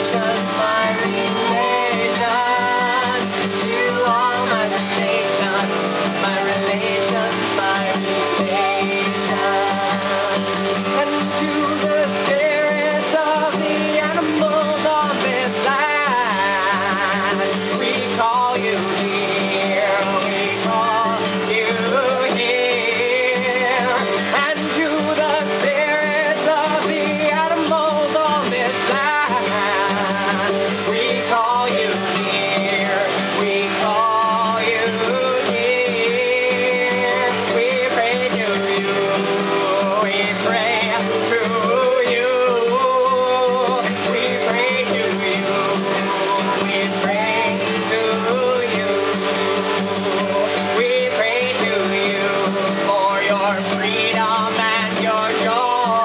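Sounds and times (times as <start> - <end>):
person singing: 0.0 - 56.0.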